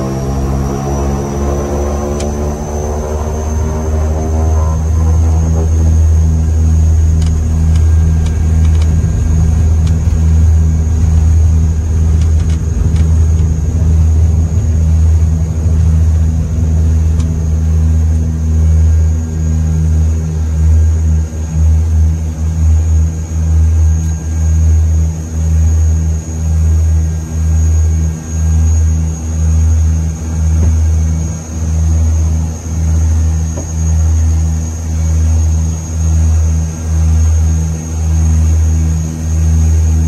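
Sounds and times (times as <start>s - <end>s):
turboprop engines droning: 0.0s - 40.0s.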